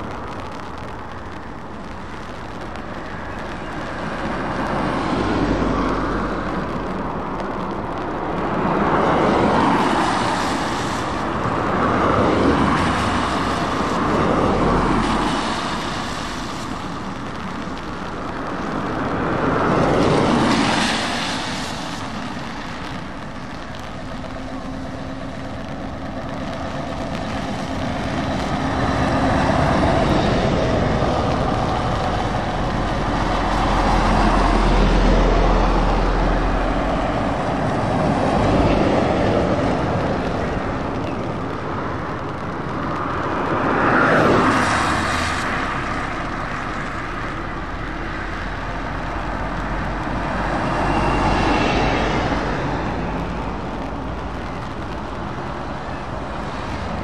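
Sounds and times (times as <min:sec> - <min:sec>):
traffic passing on wet road: 0:00.0 - 0:57.0
tyres hissing on wet tarmac: 0:00.0 - 0:57.0.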